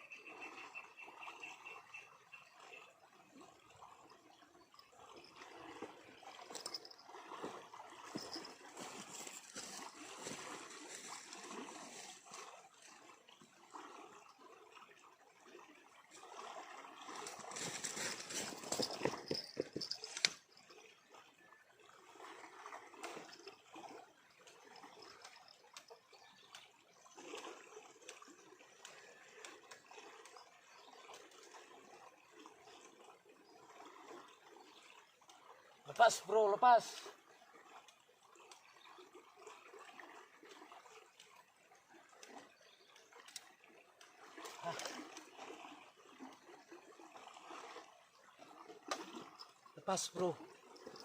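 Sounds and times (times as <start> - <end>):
water trickling and splashing: 0.0 - 51.0.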